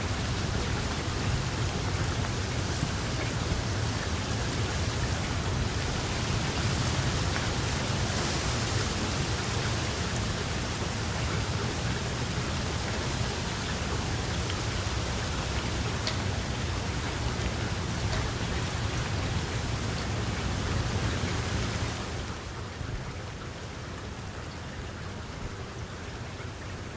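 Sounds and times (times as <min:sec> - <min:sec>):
raindrop clicks: 0:00.0 - 0:22.3
rain falling: 0:00.0 - 0:26.9.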